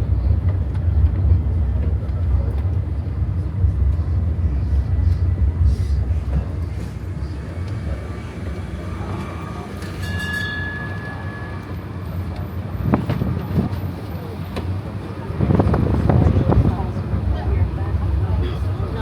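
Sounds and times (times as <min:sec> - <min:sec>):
carriages rolling rumble: 0:00.0 - 0:19.0.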